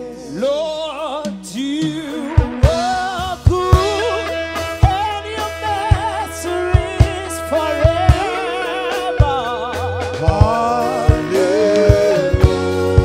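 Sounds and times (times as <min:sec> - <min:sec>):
band playing gospel music: 0:00.0 - 0:13.0
person singing: 0:00.0 - 0:13.0
drum strokes: 0:01.1 - 0:13.0.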